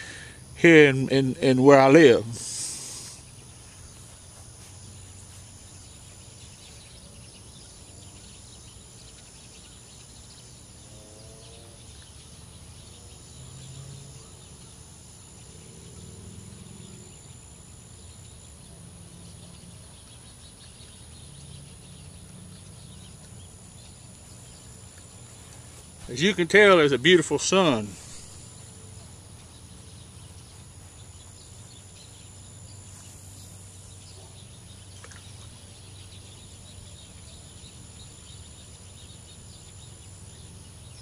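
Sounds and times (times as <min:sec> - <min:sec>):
faint bird chirps: 0:00.0 - 0:41.0
insects: 0:00.0 - 0:41.0.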